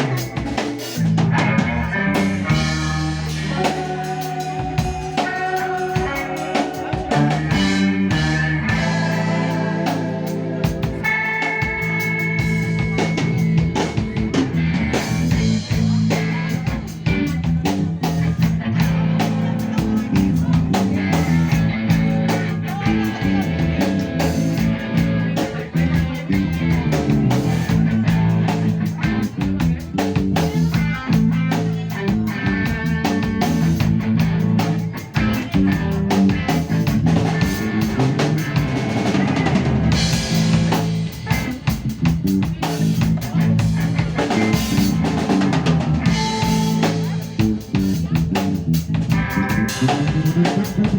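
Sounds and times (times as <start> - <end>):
band playing blues-rock: 0.0 - 50.9
drums hitting steadily: 0.0 - 50.9
moving bass line: 0.0 - 50.9.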